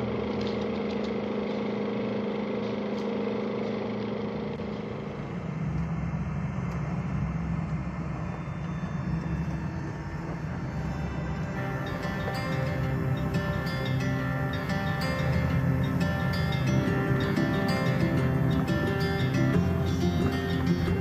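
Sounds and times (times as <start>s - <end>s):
steady mechanical hum: 0.0s - 21.0s
van engine droning: 0.0s - 21.0s.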